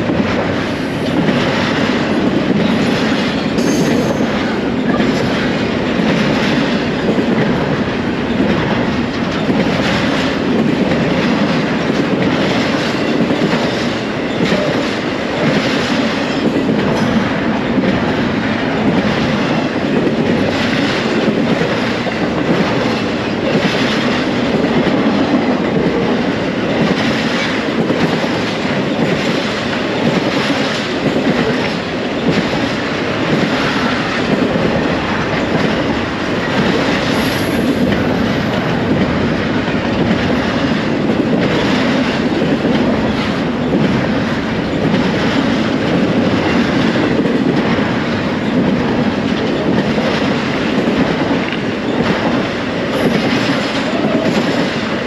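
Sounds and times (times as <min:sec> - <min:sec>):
freight train wheels rumbling: 0:00.0 - 0:55.0
wheels clacking over rail joints: 0:00.0 - 0:55.0.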